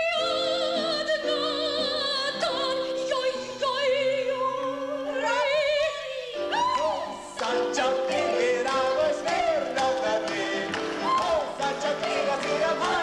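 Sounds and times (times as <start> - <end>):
soprano singing with vibrato: 0.0 - 13.0.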